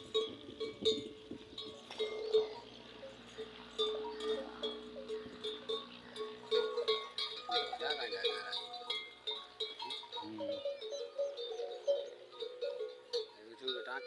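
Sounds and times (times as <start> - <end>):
camel bells clanking: 0.0 - 14.0.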